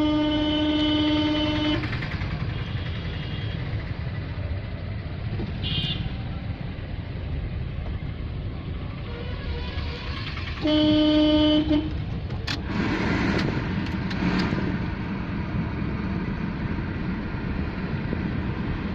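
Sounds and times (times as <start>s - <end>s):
engine and road rumble: 0.0s - 18.9s.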